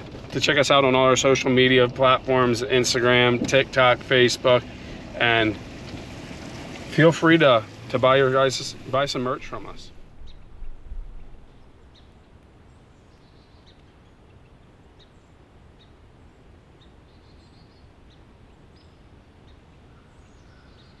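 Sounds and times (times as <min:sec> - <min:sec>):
small birds chirping: 0:00.4 - 0:21.0.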